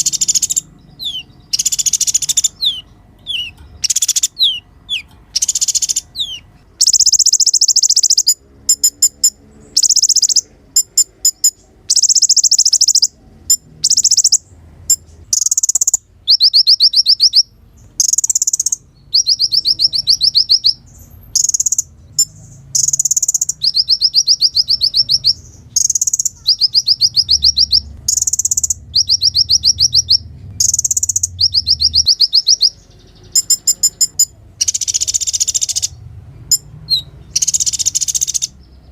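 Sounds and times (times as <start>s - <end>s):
bird chips: 0.0s - 38.9s
bird trilling: 0.0s - 38.9s.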